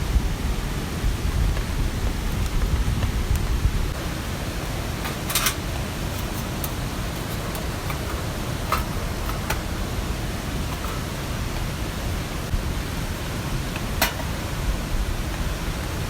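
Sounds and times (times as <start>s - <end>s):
mountain stream rushing: 0.0s - 16.0s
rain: 0.0s - 16.0s.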